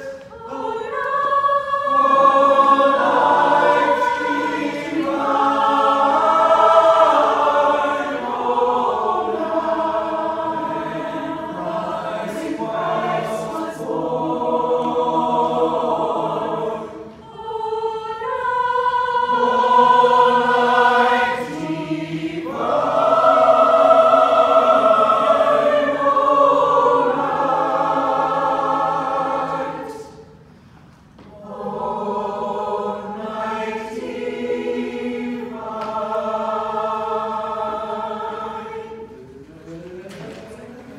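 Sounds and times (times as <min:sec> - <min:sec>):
mixed choir singing in harmony: 0:00.0 - 0:30.6, 0:31.2 - 0:40.9.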